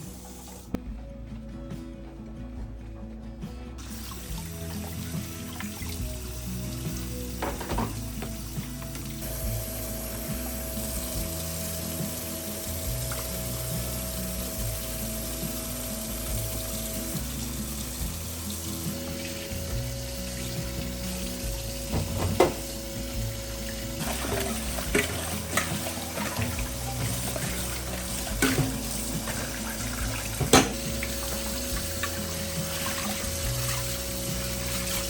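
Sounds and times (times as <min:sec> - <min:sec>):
tap water running into sink: 0:00.0 - 0:00.8, 0:03.8 - 0:35.0
soft background music: 0:00.0 - 0:35.0.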